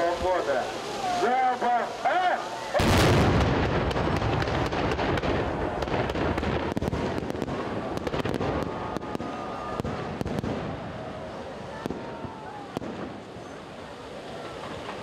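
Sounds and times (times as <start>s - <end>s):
fireworks booming and crackling: 2.7s - 15.0s.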